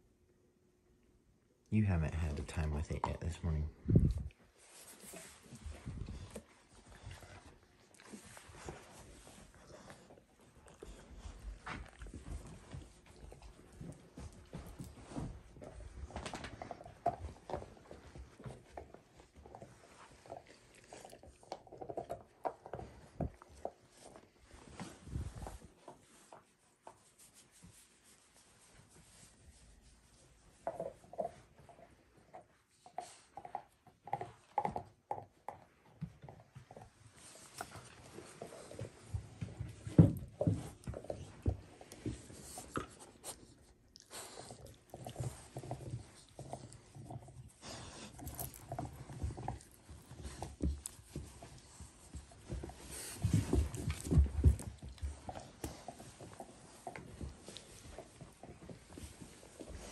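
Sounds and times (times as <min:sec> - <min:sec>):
puppy scuffling on carpet: 0:03.9 - 0:21.3, 0:22.0 - 0:33.3, 0:36.0 - 0:59.9
dog gnawing on a bone: 0:05.0 - 0:25.7, 0:30.5 - 0:59.9.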